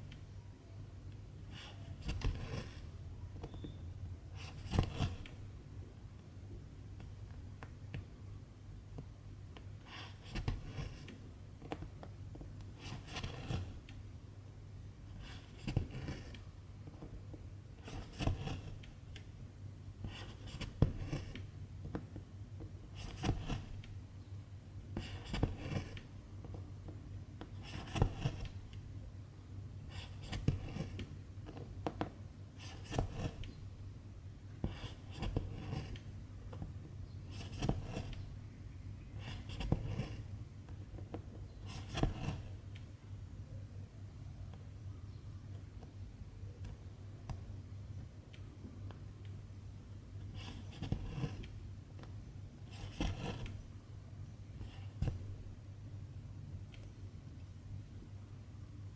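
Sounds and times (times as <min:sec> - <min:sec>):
faint steady hum: 0:00.0 - 0:58.9.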